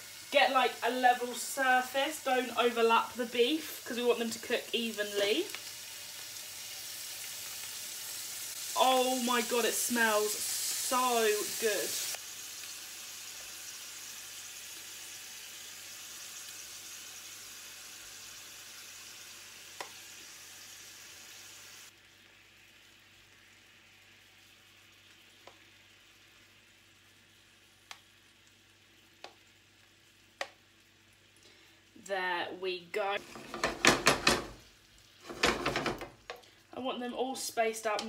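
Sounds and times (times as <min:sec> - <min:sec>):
meat sizzling in hot oil: 0:00.0 - 0:32.0, 0:33.1 - 0:38.0.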